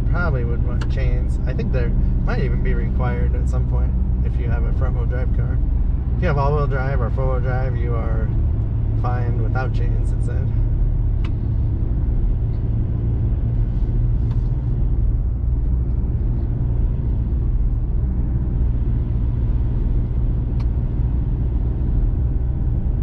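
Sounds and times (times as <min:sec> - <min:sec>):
truck engine and tyres rumbling: 0:00.0 - 0:23.0.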